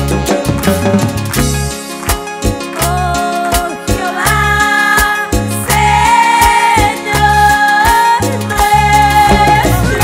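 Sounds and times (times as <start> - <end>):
drum and timbales beat: 0.0 - 3.0, 3.6 - 10.0
bass: 0.0 - 10.0.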